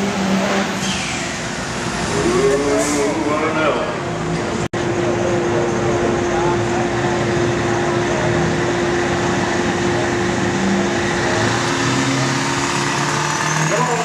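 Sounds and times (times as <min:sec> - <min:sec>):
diesel engine running hard: 0:00.0 - 0:14.0.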